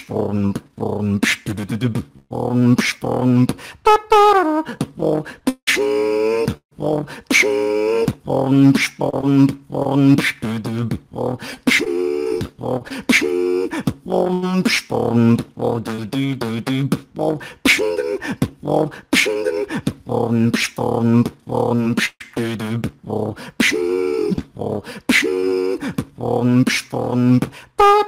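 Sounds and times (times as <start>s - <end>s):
beatboxing: 0.0s - 28.0s.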